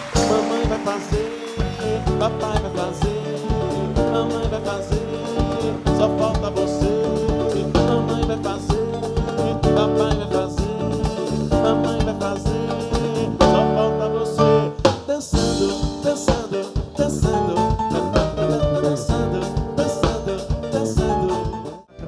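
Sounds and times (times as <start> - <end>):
drum kit playing: 0.0 - 21.9
live band instrumental: 0.0 - 22.0.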